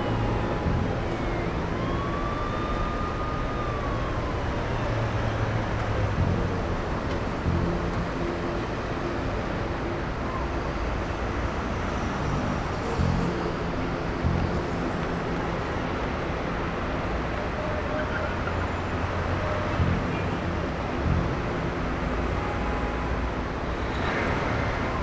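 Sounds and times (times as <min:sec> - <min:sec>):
city street traffic hum: 0:00.0 - 0:25.0.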